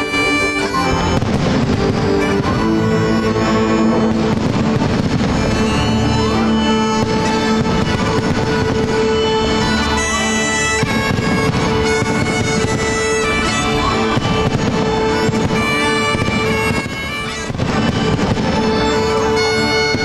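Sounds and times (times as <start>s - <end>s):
bagpipe music: 0.0s - 20.0s.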